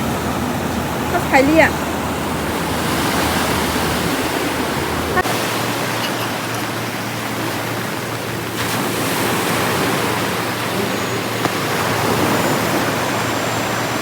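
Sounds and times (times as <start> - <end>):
surf rushing on beach: 0.0 - 14.0.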